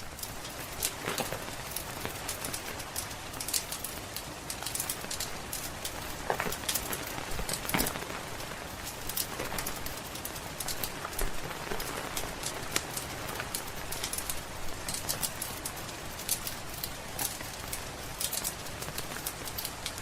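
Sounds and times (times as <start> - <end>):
rain pattering: 0.0 - 20.0
wood fire crackling: 0.0 - 20.0.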